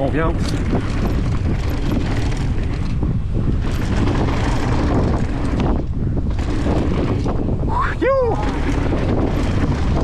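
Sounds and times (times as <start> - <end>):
bike rolling over gravel: 0.0 - 10.0
tyre and frame rattle: 0.0 - 10.0
wind buffeting microphone: 0.0 - 10.0.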